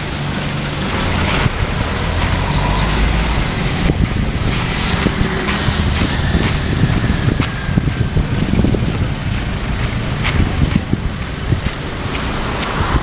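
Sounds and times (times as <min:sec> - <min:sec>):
low traffic rumble: 0:00.0 - 0:13.0
wind buffeting microphone: 0:00.0 - 0:13.0.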